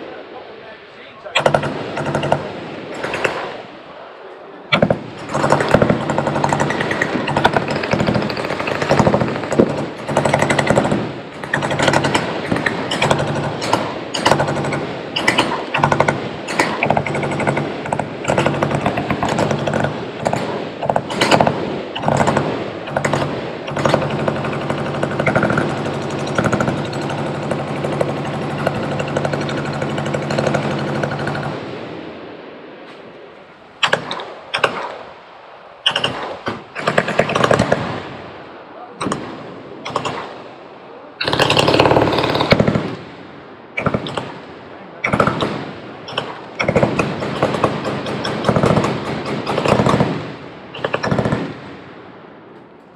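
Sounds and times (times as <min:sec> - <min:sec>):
steady low hum: 0:00.0 - 0:52.9
machine guns firing: 0:01.4 - 0:03.6, 0:04.7 - 0:31.8, 0:33.8 - 0:35.1, 0:35.8 - 0:38.2, 0:39.0 - 0:40.4, 0:41.2 - 0:43.2, 0:43.8 - 0:51.8.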